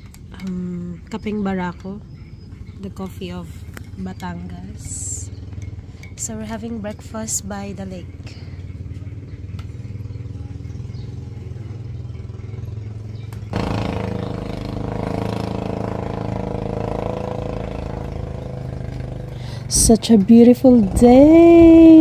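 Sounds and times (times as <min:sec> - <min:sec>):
motorcycle engines idling: 0:00.0 - 0:22.0.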